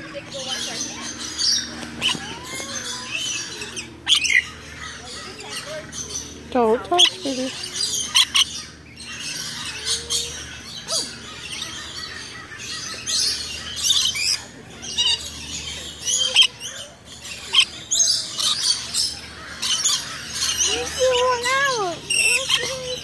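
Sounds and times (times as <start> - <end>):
parrots chirping and screeching: 0.0 - 23.0.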